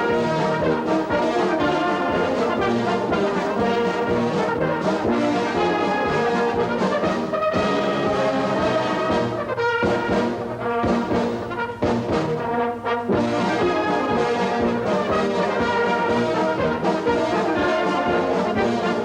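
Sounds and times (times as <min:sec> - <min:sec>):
brass music: 0:00.0 - 0:19.0.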